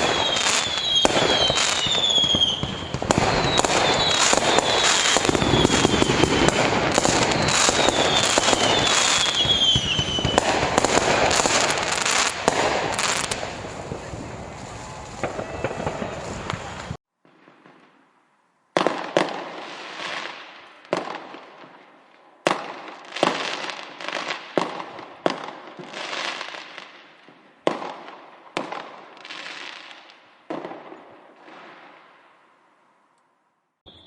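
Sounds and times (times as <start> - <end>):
fireworks bangs: 0.0 - 18.1, 18.8 - 21.8, 22.4 - 32.2.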